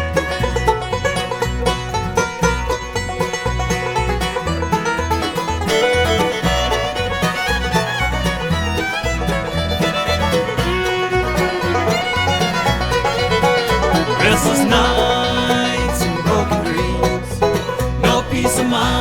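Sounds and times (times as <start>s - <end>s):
bluegrass band playing: 0.0s - 19.0s
steady bass beat: 0.0s - 19.0s.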